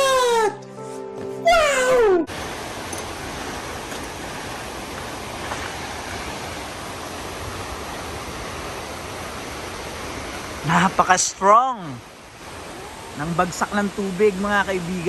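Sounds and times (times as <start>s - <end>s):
waterfall crashing: 2.3s - 15.0s.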